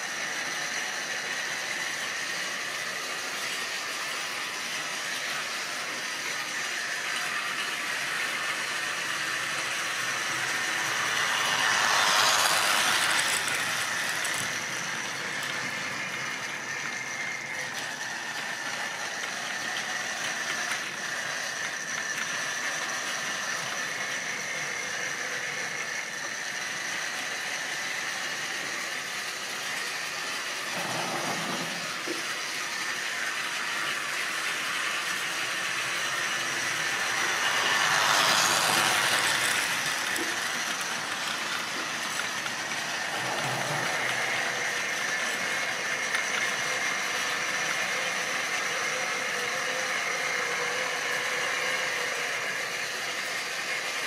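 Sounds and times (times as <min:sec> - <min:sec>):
steady high whine: 0:00.0 - 0:53.7
model train running on track: 0:00.0 - 0:54.0.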